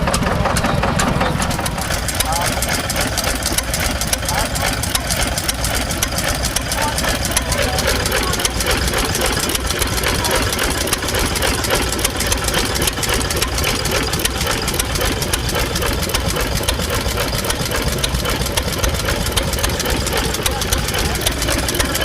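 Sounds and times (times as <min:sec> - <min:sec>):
engine running with clatter: 0:00.0 - 0:22.0.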